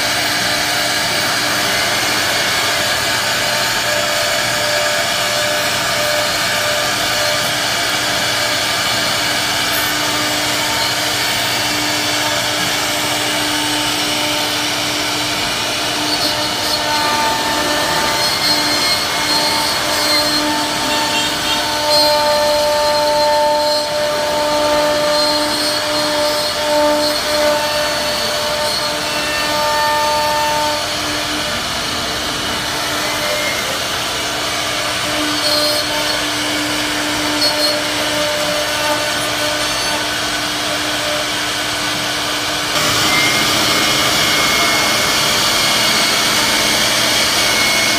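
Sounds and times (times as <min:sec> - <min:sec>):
router spindle carving wood: 0:00.0 - 0:47.9.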